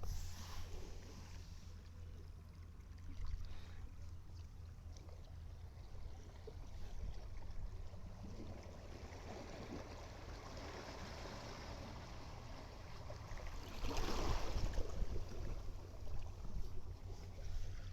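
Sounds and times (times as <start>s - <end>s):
small waves washing: 0.0s - 17.9s.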